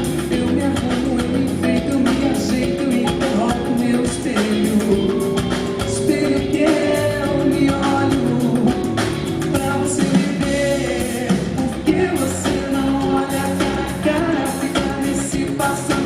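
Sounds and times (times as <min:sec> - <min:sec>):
lead singer singing: 0:00.0 - 0:16.0
live band playing: 0:00.0 - 0:16.0.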